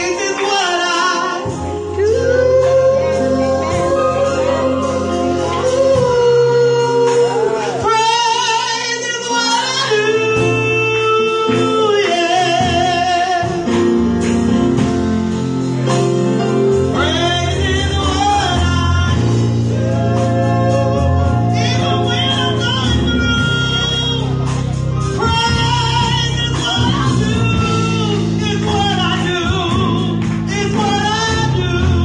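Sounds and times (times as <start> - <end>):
woman singing gospel into microphone: 0.0 - 13.7, 17.0 - 24.3, 25.2 - 32.0
instrumental accompaniment with bass: 0.0 - 32.0.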